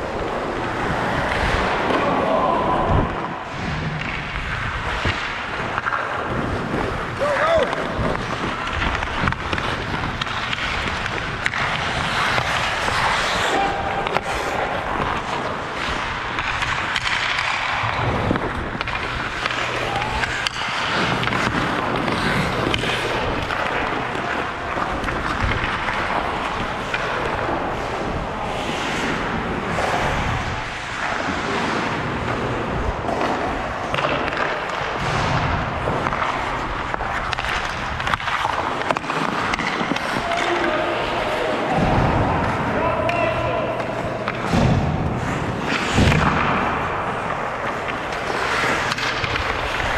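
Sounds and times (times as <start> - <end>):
skates scraping on ice: 0.0 - 49.9
sticks and puck clacking on ice: 0.0 - 49.9.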